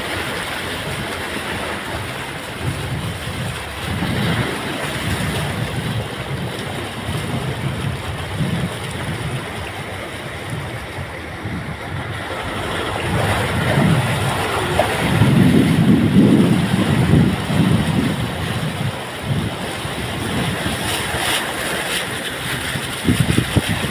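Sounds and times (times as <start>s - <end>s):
water churning and splashing: 0.0s - 23.9s
wind buffeting microphone: 0.0s - 23.9s.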